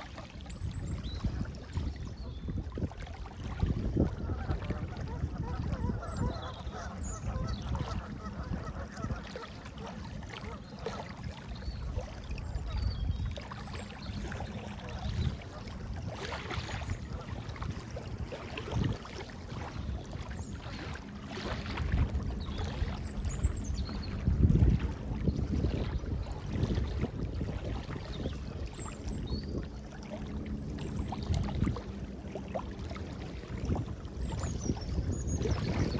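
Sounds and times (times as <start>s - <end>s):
wind buffeting microphone: 0.5s - 35.9s.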